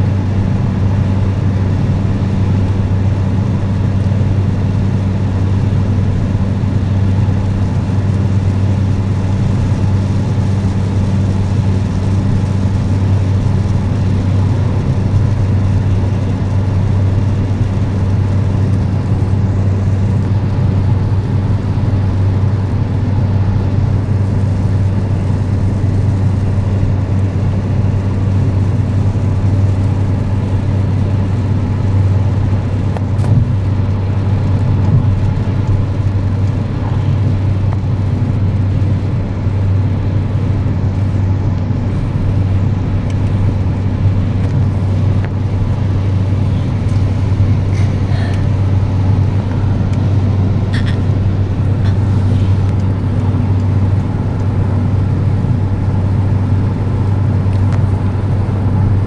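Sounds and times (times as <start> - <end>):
car cabin engine hum: 0.0 - 59.0.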